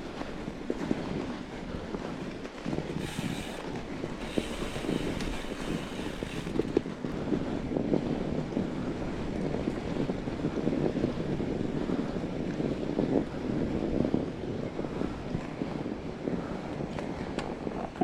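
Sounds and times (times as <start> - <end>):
bike tyres crunching over snow: 0.0 - 14.6
wind buffeting microphone: 0.0 - 18.0.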